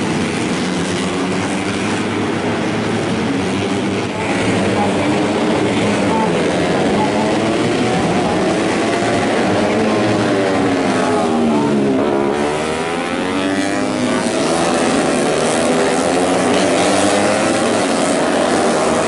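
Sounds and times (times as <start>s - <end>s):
racing motorcycles passing at high revs: 0.0s - 19.0s.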